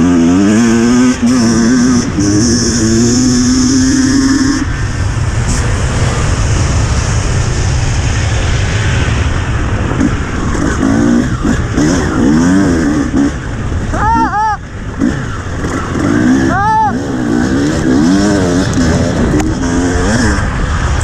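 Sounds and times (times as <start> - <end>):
motorcycle revving: 0.0 - 21.0
wind rushing on helmet: 0.4 - 21.0.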